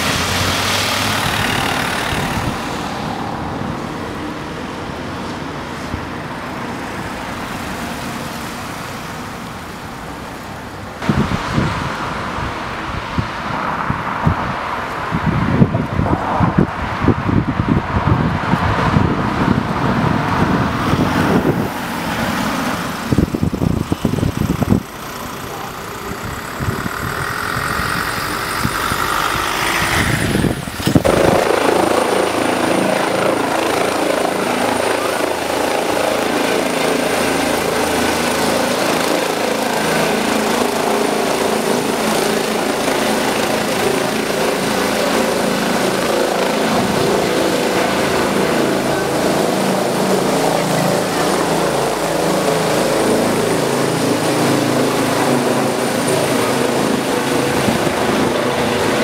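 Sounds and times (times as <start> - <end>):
wind buffeting microphone: 0.0 - 6.4, 11.0 - 59.0
helicopter turbine whine and rotor: 0.0 - 59.0.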